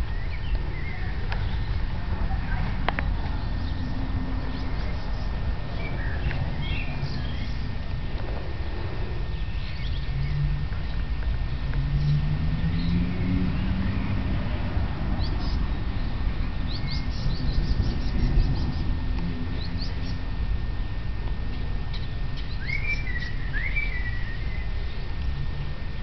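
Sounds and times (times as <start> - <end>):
songbirds chirping: 0.0 - 26.0
steady low rumble: 0.0 - 26.0.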